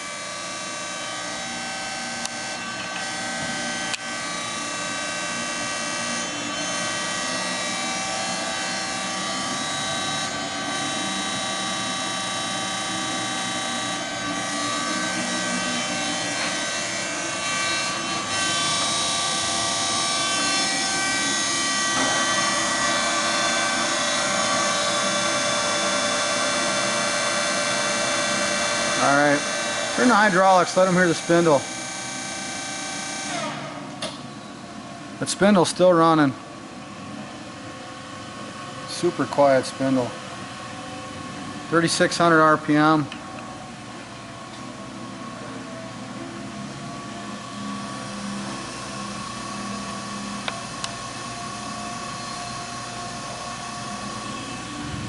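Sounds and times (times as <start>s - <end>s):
grinder machine hum and whine: 0.0s - 55.0s.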